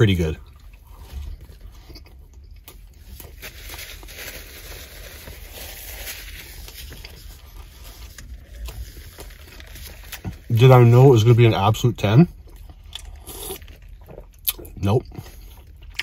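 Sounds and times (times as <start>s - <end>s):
chewing sandwich: 0.4s - 10.5s, 12.3s - 16.0s.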